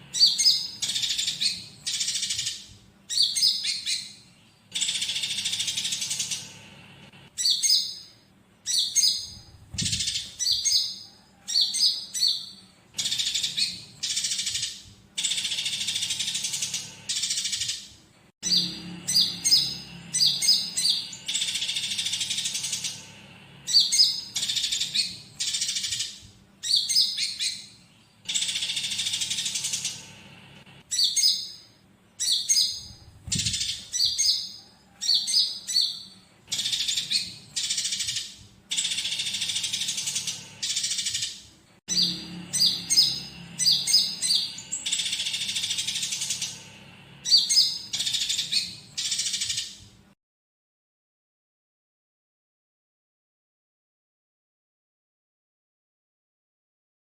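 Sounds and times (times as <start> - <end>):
bird singing: 0.0 - 6.7, 7.3 - 49.8
sparrows chattering: 0.0 - 49.8.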